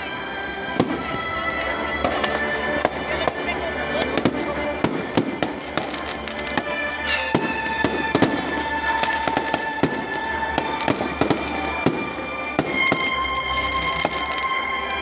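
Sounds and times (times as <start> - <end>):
music playing: 0.0 - 15.0.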